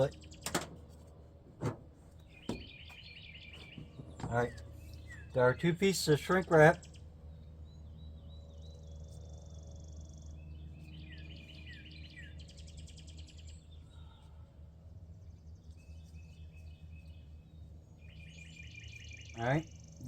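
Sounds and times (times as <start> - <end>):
small birds chirping: 0.0 - 1.1, 2.0 - 20.0
steady low hum: 0.0 - 20.0.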